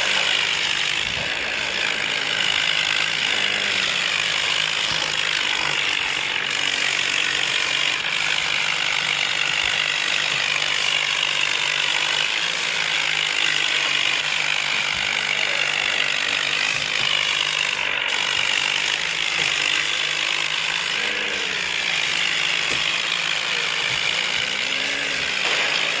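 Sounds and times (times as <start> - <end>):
tractor diesel engine straining: 0.0 - 26.0.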